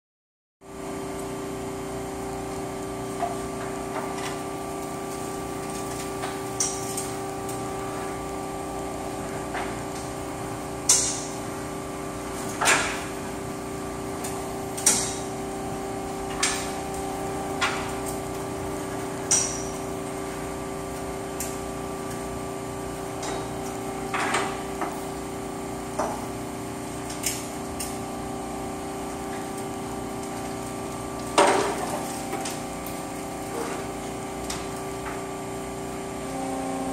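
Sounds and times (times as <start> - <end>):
steady hum: 0.7 - 36.9.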